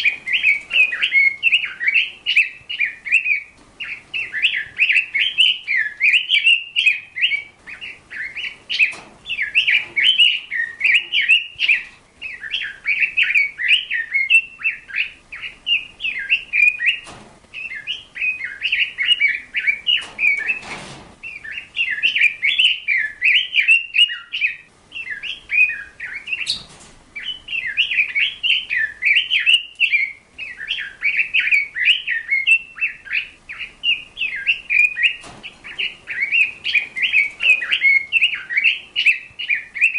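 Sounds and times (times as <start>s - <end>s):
bird chirping quickly: 0.0s - 39.9s.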